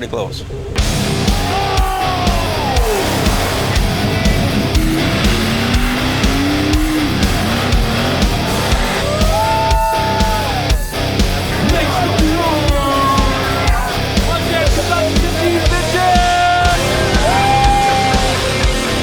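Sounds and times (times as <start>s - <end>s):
heavy metal rock music: 0.8s - 19.0s.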